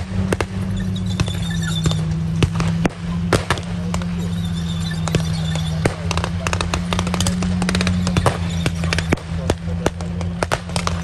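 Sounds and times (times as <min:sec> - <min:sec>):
tank engine running: 0:00.0 - 0:11.0.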